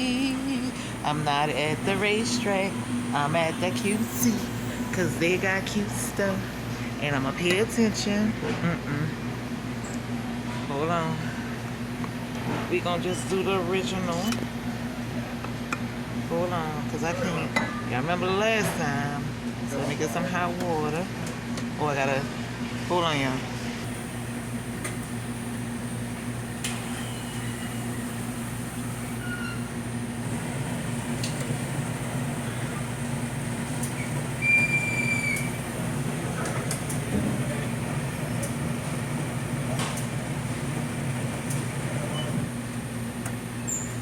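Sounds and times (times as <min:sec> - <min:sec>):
beverage machine humming: 0:00.0 - 0:44.0.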